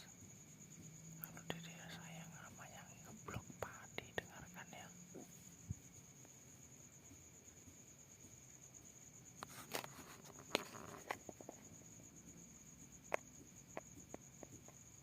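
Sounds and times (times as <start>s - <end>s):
high-pitched insect-like trill: 0.0s - 15.0s.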